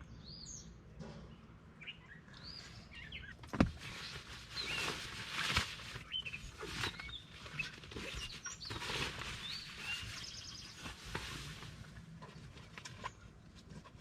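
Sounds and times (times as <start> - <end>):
small birds chirping: 0.0 - 12.0
rustling and handling noises: 2.4 - 14.0.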